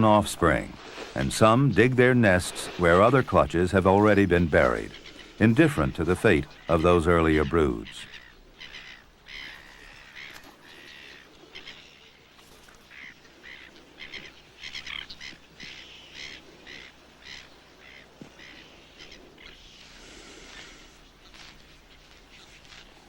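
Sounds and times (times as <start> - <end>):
birds honking calls: 0.0 - 23.0.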